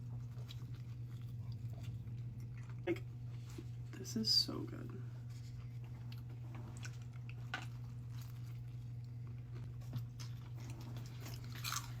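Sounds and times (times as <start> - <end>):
person chewing food: 0.0 - 3.8, 5.2 - 12.0
steady low hum: 0.0 - 12.0.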